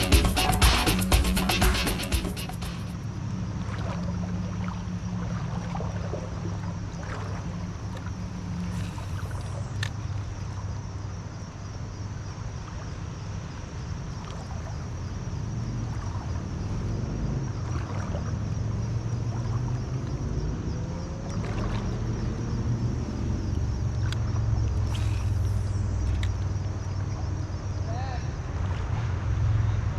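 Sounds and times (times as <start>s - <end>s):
boat motor humming: 0.0s - 11.2s, 14.6s - 27.8s
moving water: 0.0s - 29.9s.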